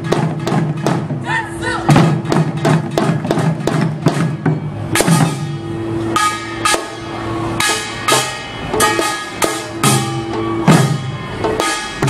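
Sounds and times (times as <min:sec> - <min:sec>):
drums struck in uneven rhythm: 0:00.0 - 0:12.0
steady held melodic tone: 0:00.0 - 0:12.0.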